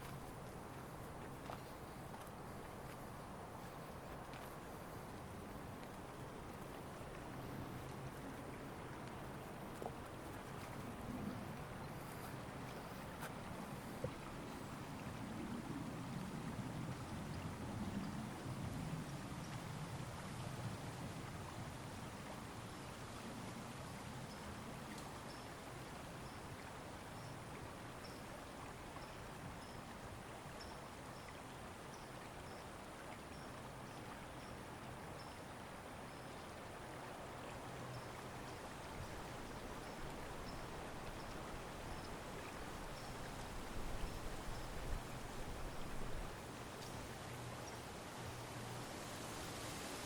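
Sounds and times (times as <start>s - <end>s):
rushing stream: 0.0s - 50.0s.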